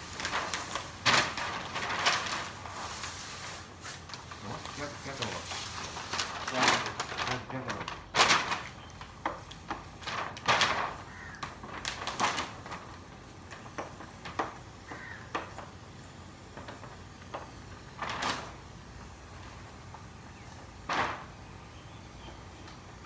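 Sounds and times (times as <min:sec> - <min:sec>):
rustling: 0:00.0 - 0:15.8, 0:16.4 - 0:23.0.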